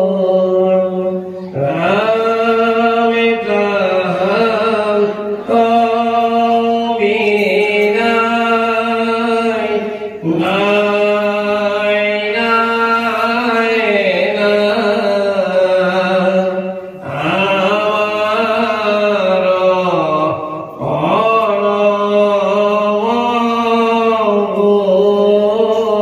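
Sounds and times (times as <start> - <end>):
man chanting verses: 0.0 - 26.0.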